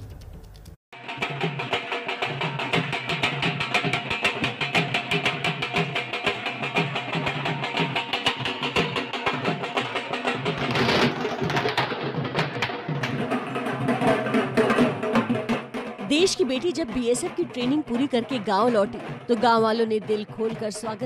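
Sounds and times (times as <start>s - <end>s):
dhol drums beating: 0.9s - 21.0s.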